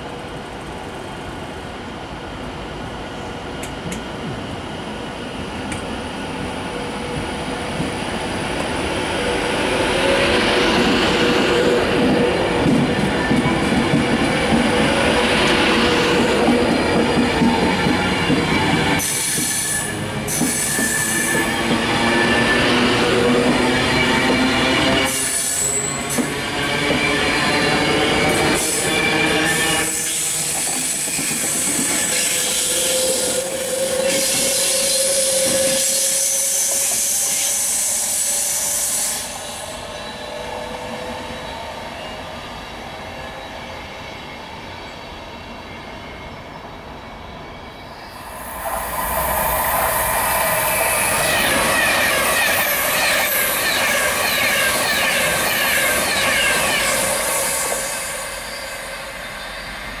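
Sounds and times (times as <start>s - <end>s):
electric train passing at speed: 0.0s - 60.0s
rail noise: 0.0s - 60.0s.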